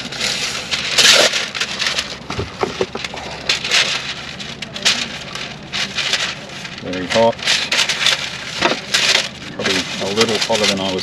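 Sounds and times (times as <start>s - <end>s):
baking paper rustling: 0.0s - 11.0s.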